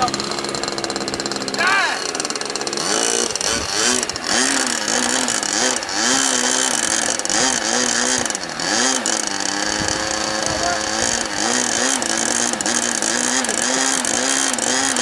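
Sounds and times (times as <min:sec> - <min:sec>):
model airplane engines buzzing: 0:00.0 - 0:15.0.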